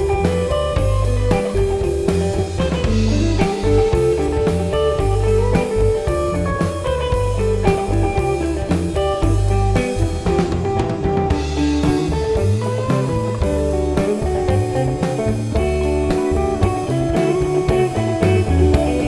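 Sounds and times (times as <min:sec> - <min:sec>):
blues-rock band playing: 0:00.0 - 0:19.0.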